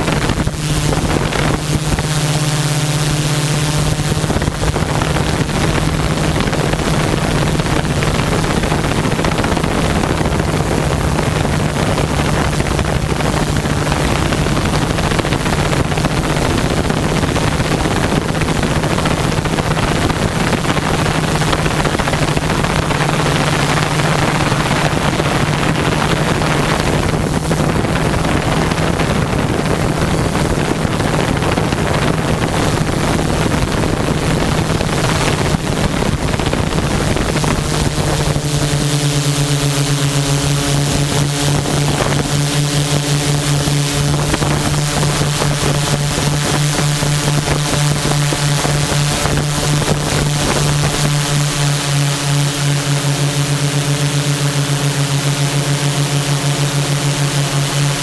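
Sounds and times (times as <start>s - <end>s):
drone motors humming: 0.0s - 58.0s
wind noise on microphone: 0.0s - 58.0s.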